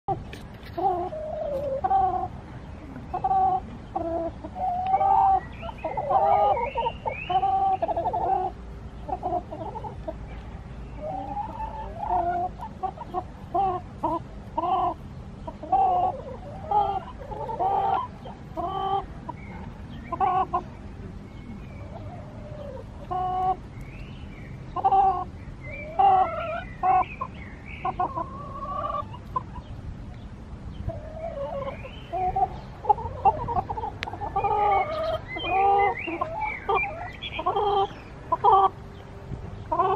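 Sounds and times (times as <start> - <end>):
hens clucking: 0.1 - 39.9.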